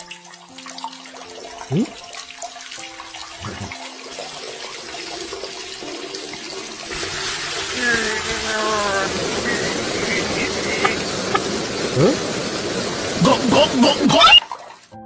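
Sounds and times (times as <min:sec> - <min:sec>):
urine stream splashing in toilet: 0:00.0 - 0:15.0.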